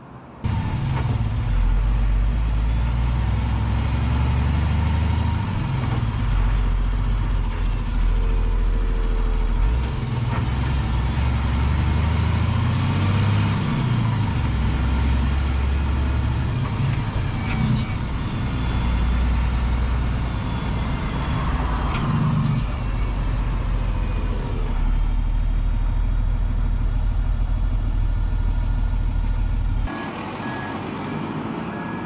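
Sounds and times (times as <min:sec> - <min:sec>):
diesel truck engine: 0:00.0 - 0:32.0
tyre and road noise: 0:00.0 - 0:32.0.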